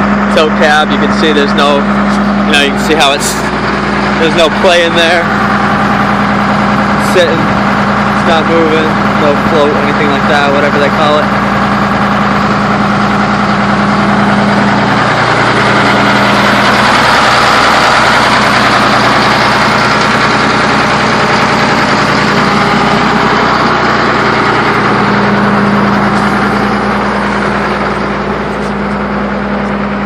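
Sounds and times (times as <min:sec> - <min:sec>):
excavator engine idling: 0:00.0 - 0:30.0.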